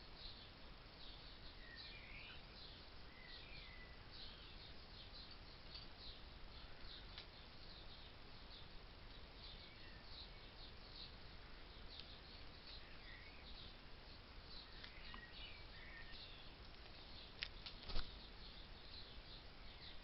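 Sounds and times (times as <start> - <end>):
small bird chirps: 0.1 - 20.0.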